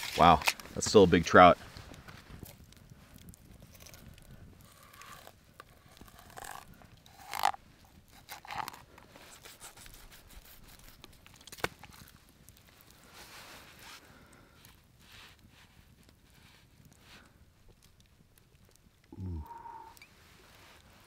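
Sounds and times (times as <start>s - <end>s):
crunching and scraping handling noises: 0.0s - 18.0s.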